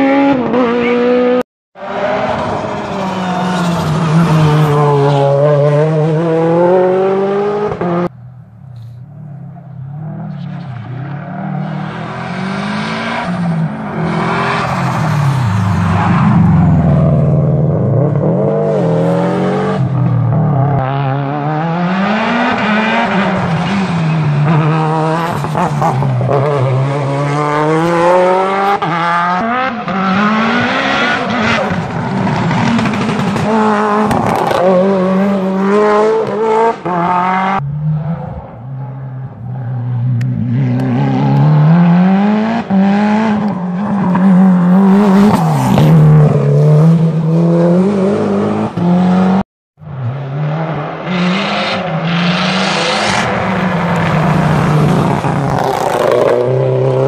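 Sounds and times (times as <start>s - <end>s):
racing car engines revving: 0.0s - 8.1s, 8.8s - 57.0s.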